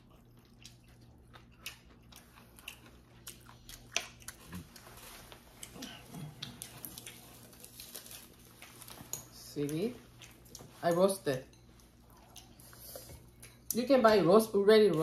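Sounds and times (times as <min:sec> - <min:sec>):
person chewing food: 0:00.0 - 0:13.8.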